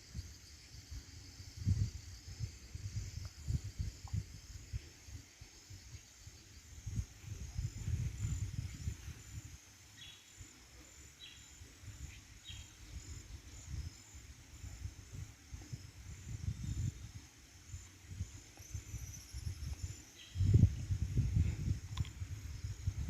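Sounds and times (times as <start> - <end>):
wind rumble on microphone: 0.0 - 10.2, 11.2 - 23.0
insects chirping: 0.0 - 23.0.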